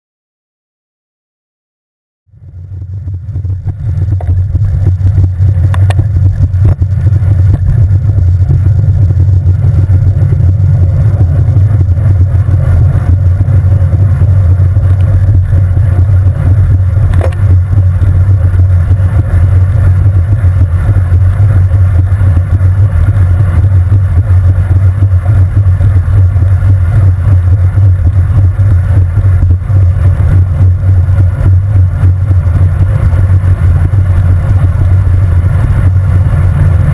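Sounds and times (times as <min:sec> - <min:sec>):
road vibration rumble: 0:02.3 - 0:36.9
wind buffeting camera: 0:02.4 - 0:36.9.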